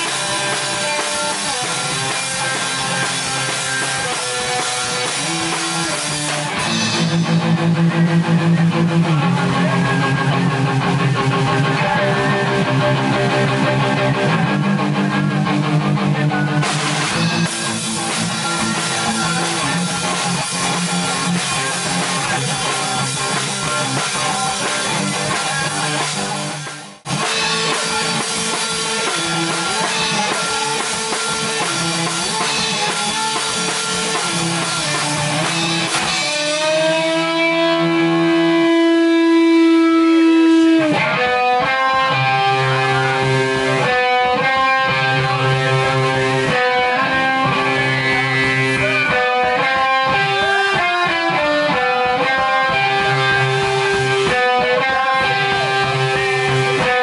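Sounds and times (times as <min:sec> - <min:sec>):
distorted electric guitar: 0:00.0 - 0:57.0
drum kit playing rock: 0:00.0 - 0:57.0.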